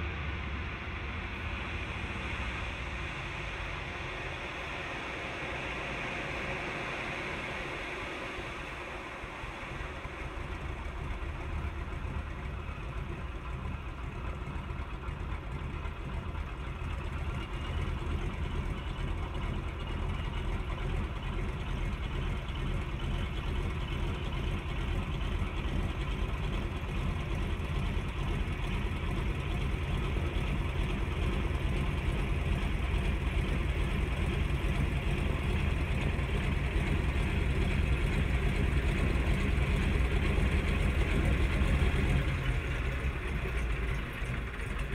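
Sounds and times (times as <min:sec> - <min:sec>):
floatplane engine and propeller: 0:00.0 - 0:44.9.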